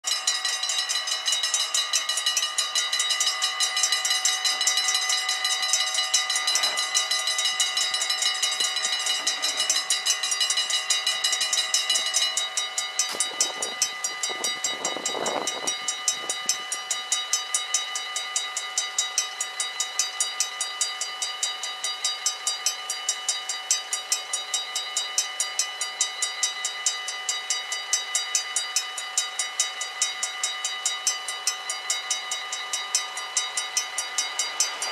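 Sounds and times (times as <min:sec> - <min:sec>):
level crossing bell ringing: 0:00.0 - 0:34.9.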